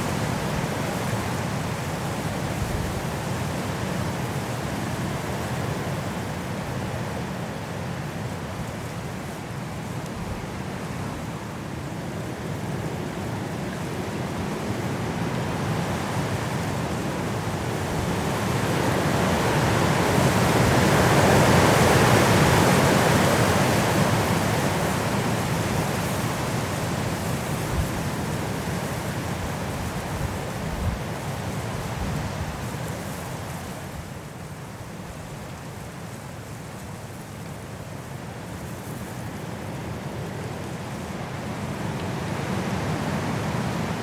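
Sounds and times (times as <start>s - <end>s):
strong wind through trees: 0.0s - 44.0s.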